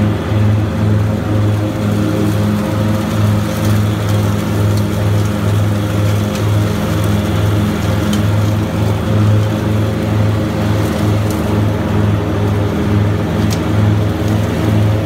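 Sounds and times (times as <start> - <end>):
mower engine and blower throbbing: 0.0 - 15.0.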